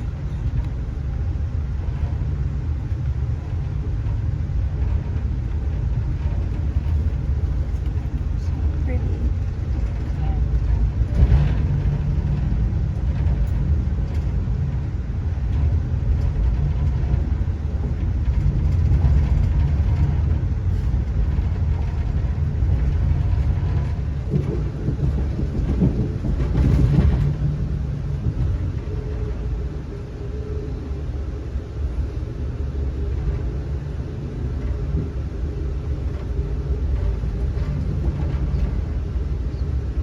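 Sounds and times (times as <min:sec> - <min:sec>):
train rumbling on track: 0:00.0 - 0:40.0.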